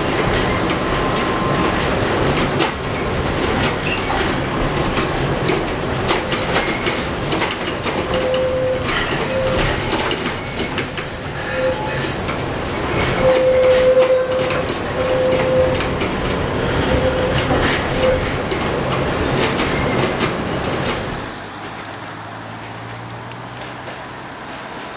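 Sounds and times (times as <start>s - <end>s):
tram rattling over track: 0.0s - 24.9s.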